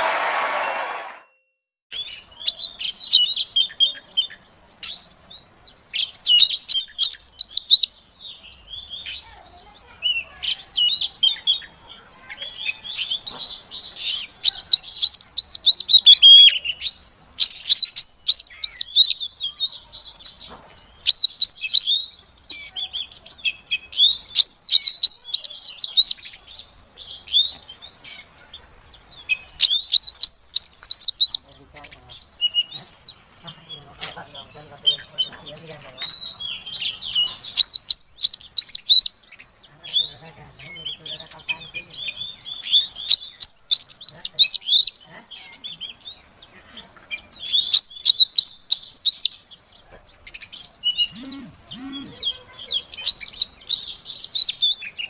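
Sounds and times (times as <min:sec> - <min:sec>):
bird chirping and twittering: 0:01.9 - 0:55.0.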